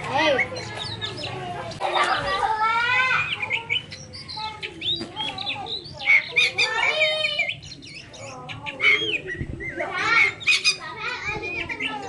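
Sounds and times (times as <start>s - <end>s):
bird chirps: 0.0s - 2.2s, 3.0s - 12.0s.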